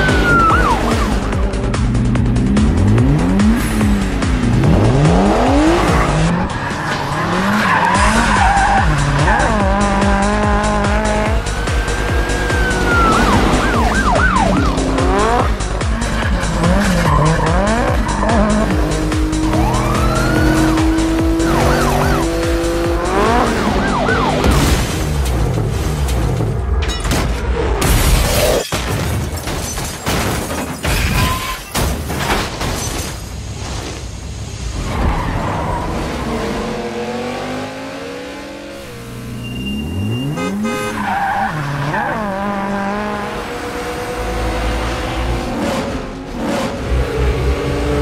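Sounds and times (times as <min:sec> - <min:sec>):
car engines revving: 0:00.0 - 0:26.8, 0:33.4 - 0:48.0.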